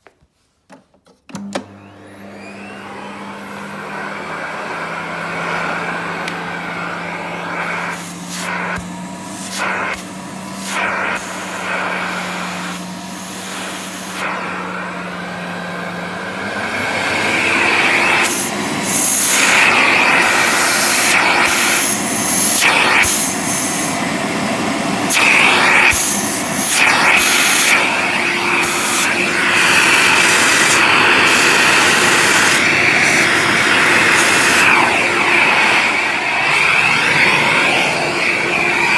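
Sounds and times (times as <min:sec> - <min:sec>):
vacuum cleaner running: 0:01.3 - 0:38.9.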